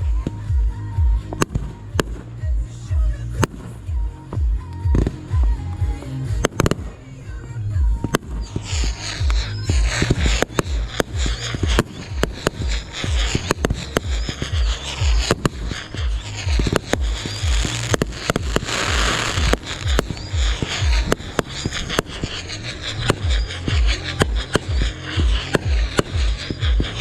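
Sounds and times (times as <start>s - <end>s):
fireworks bangs and crackling: 0.0s - 27.0s
music with heavy bass beat: 0.0s - 27.0s.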